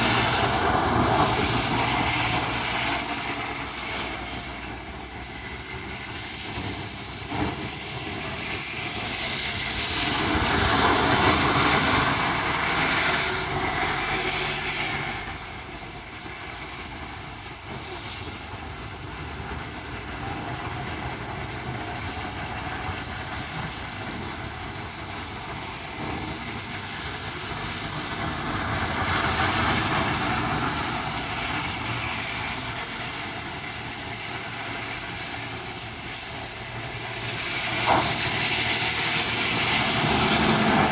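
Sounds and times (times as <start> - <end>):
strong wind gusts: 0.0 - 40.9.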